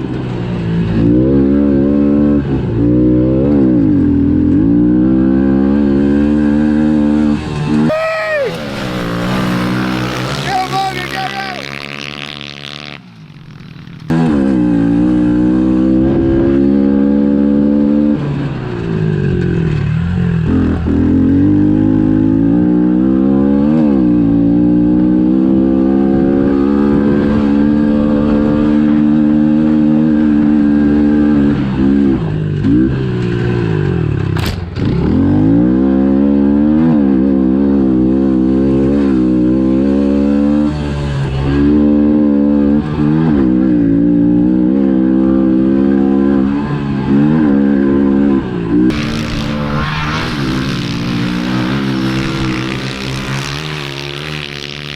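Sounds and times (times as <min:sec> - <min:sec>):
small motorbike engine revving: 0:00.8 - 0:54.9.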